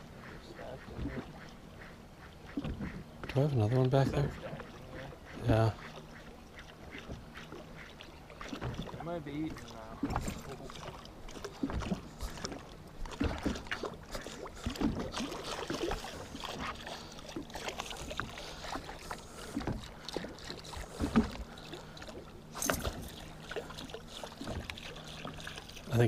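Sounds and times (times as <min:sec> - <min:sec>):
water rush: 0:00.0 - 0:26.0
waves lapping against boat hull: 0:00.0 - 0:26.0.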